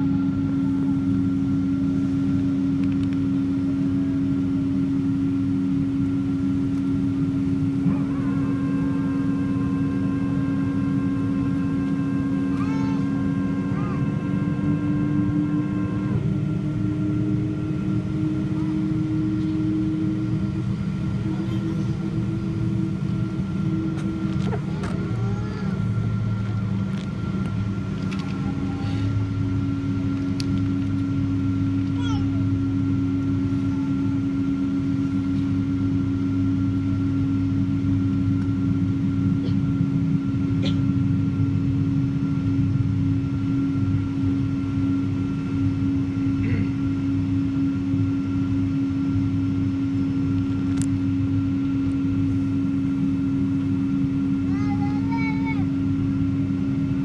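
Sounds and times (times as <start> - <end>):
jet engines droning: 0.0 - 57.0
steady loud tone: 0.0 - 57.0
steady whine: 0.0 - 57.0.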